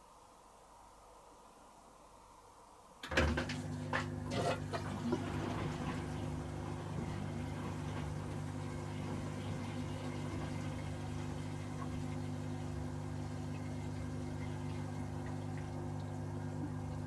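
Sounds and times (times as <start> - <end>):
washing machine humming: 1.6 - 17.0.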